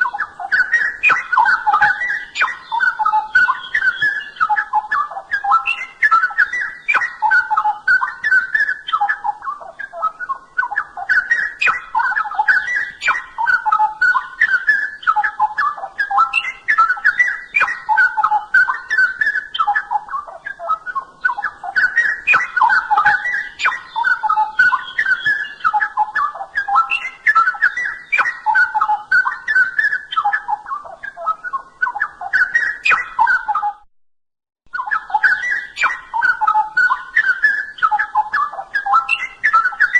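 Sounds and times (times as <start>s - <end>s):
bird singing rapid warbling: 0.0s - 33.8s, 34.7s - 39.9s.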